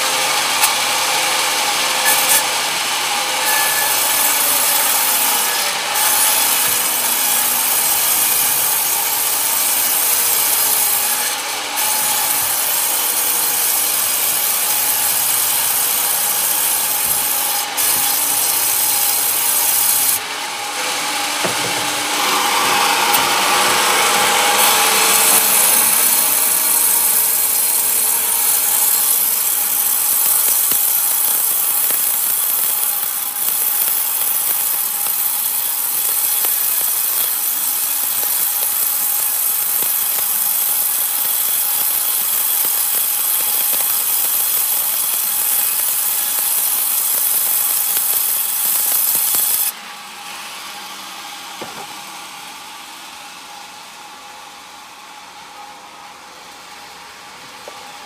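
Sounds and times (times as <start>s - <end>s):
saw blade rasping through wood: 0.0s - 49.7s
band saw machine hum: 0.0s - 58.0s.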